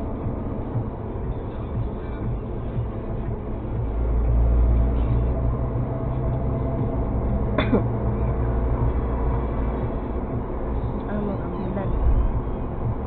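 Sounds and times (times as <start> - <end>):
car engine drone in cabin: 0.0 - 13.0
road noise: 0.0 - 13.0.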